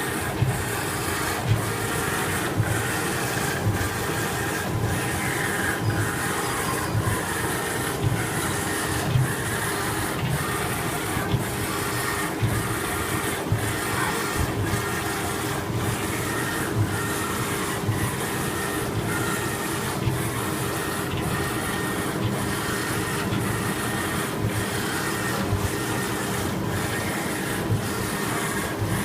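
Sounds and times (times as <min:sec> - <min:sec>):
laser cutting machine humming: 0:00.0 - 0:29.0.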